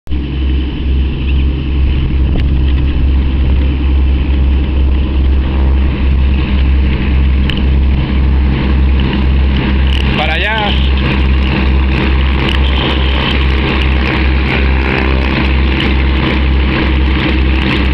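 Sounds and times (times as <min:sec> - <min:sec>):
propeller plane engines droning: 0:00.1 - 0:17.9.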